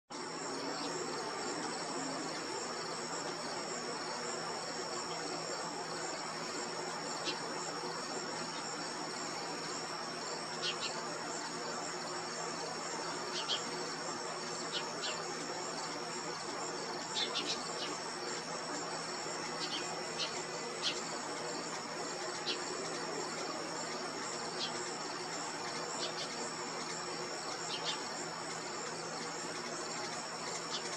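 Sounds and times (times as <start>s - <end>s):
insects trilling: 0.1s - 30.9s.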